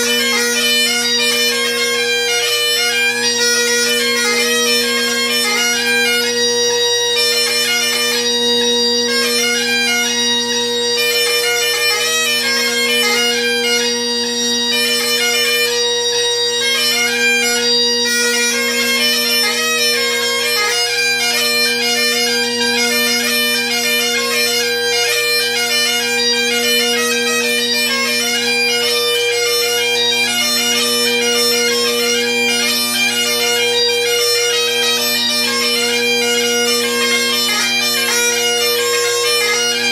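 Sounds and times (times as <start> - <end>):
bagpipe playing a jig: 0.0 - 39.9.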